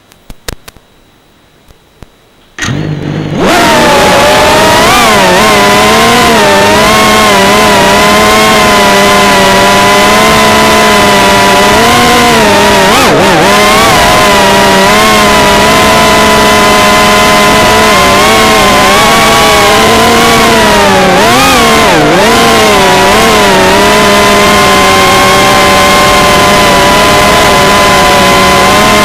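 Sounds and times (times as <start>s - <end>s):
drone motors whining: 2.6s - 29.0s.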